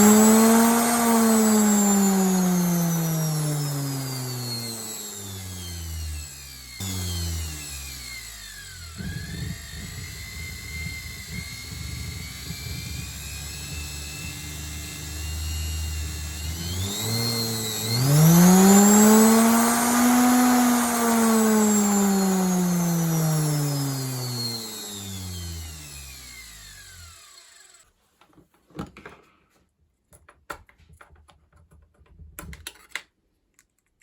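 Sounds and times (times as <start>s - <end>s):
electric motor whine: 0.0s - 27.9s.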